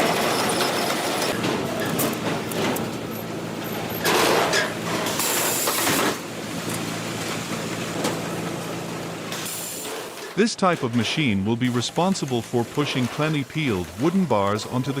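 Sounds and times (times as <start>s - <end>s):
sawmill machine hum: 0.0s - 15.0s.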